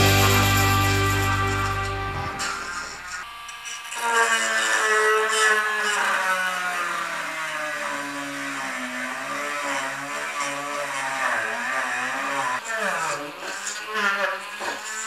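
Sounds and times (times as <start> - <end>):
rotary tool drilling plastic: 2.6 - 15.0.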